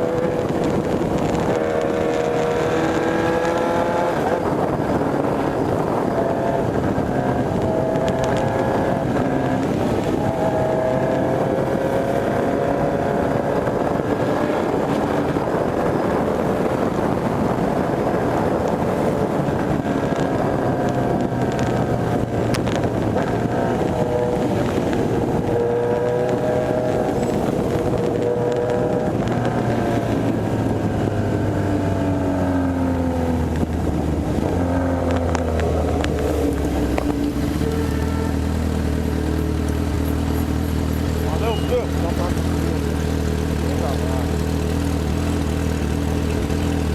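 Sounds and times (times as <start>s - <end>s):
motorcycle engine accelerating: 0.0s - 46.9s
wind noise on microphone: 0.0s - 46.9s.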